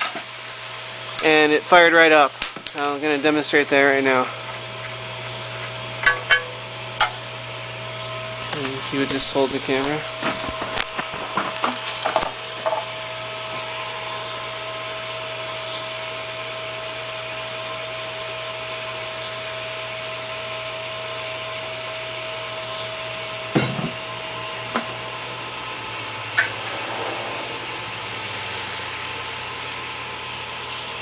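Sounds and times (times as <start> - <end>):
machine hum with whine: 0.0 - 31.0.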